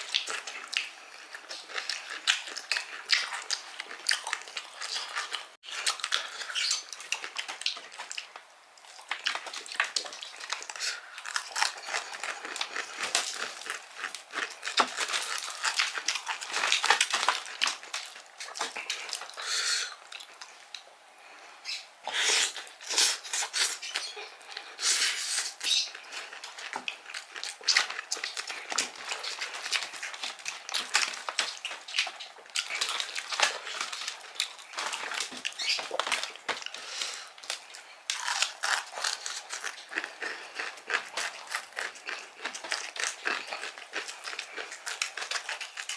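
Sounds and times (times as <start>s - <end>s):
chewing crispy fried chicken: 0.0s - 21.0s, 22.1s - 45.9s.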